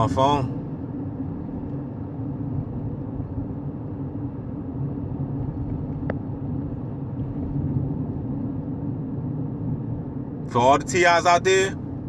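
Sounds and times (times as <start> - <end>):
car rumbling: 0.0 - 12.0.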